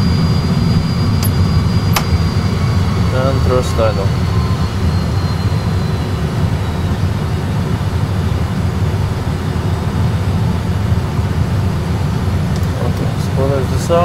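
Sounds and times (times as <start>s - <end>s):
airliner engines idling rumble: 0.0s - 14.0s
faint high whine: 0.0s - 14.0s.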